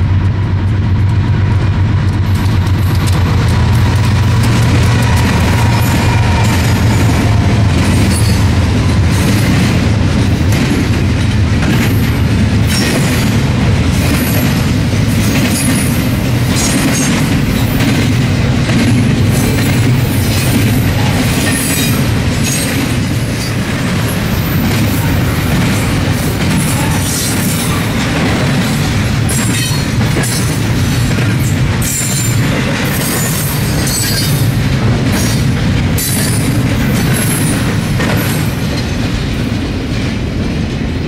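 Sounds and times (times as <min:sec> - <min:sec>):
train wheels rumbling on rail: 0:00.0 - 0:41.0
wheels clicking over rail joints: 0:00.0 - 0:41.0.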